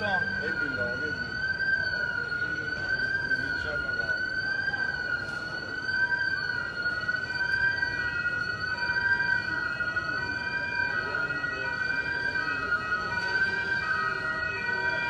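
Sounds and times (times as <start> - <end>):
high-pitched alarm tone: 0.0 - 15.0
street noise: 0.0 - 15.0.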